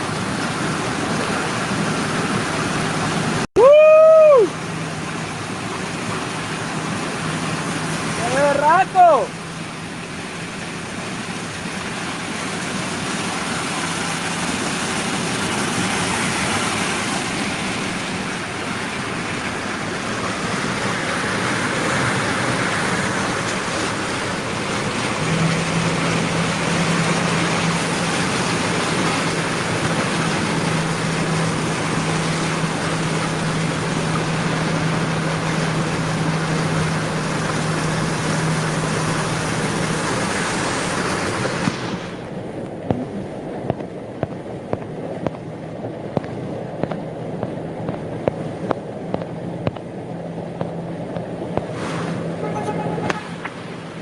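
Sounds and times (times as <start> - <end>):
car engine hum: 0.0 - 54.0
rushing water: 0.0 - 54.0.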